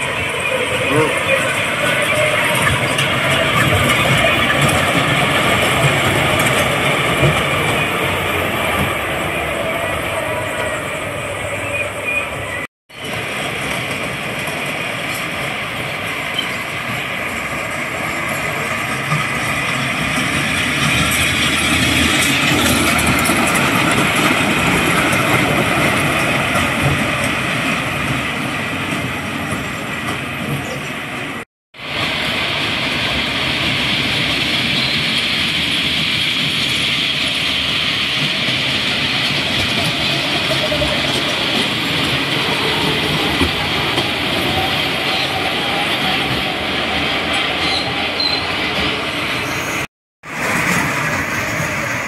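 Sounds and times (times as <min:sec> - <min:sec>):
roller coaster rumble and clatter: 0:00.0 - 0:52.0.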